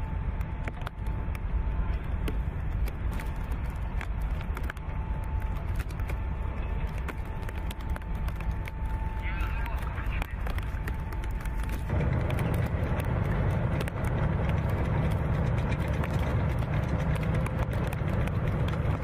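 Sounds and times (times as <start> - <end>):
thin steady whine: 0.0 - 19.0
wind buffeting microphone: 0.0 - 19.0.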